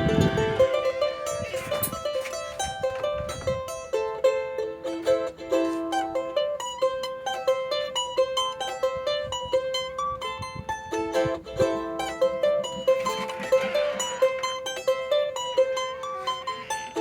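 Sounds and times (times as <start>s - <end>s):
charango plucked and strummed: 0.0s - 17.0s.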